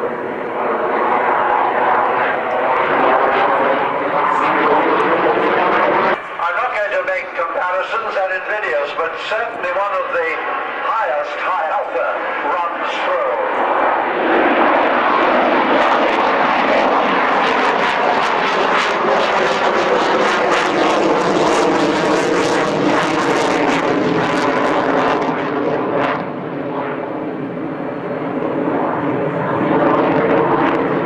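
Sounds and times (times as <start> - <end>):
jet fighter engines roaring: 0.0 - 31.0.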